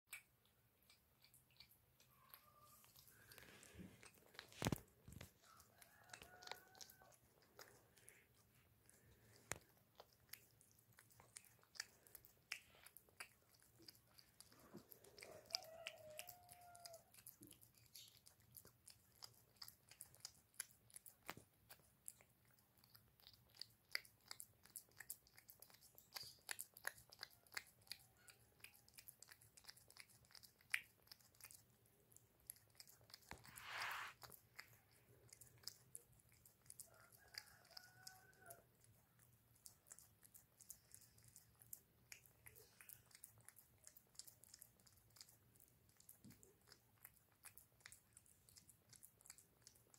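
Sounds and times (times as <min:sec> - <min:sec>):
cat chewing and lapping: 0:00.1 - 0:49.9.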